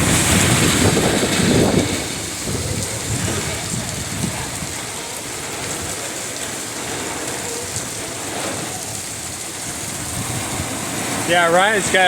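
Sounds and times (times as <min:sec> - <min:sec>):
heavy rain pouring: 0:00.0 - 0:12.0
wind: 0:00.0 - 0:12.0.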